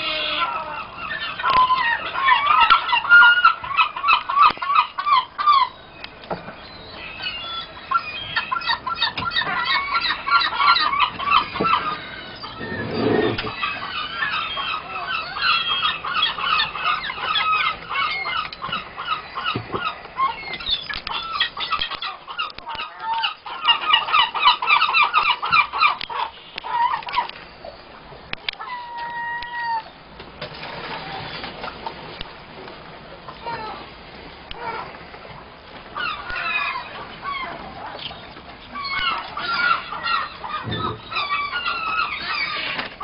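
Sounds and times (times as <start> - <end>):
flock of birds calling: 0.0 - 43.0.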